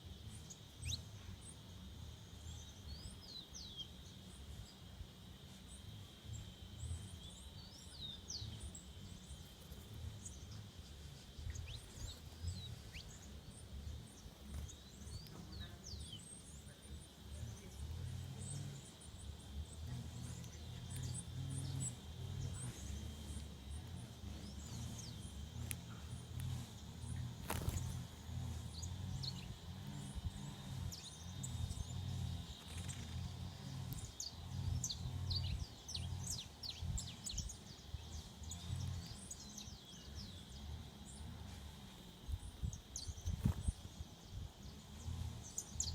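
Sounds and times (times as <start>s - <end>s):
small birds chirping: 0.0s - 45.9s
steady high-pitched buzz: 0.0s - 45.9s.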